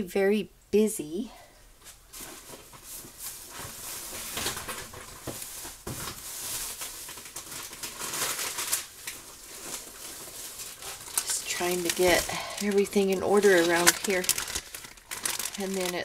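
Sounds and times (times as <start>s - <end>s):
packaging rustling and crinkling: 1.8s - 16.0s.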